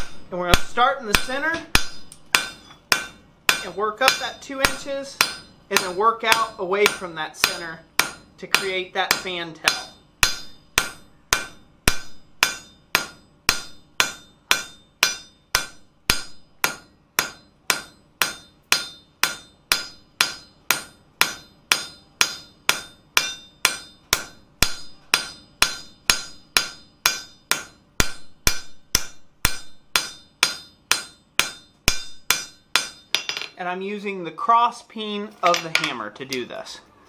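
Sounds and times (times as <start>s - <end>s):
hammer striking steel on anvil: 0.0s - 33.6s.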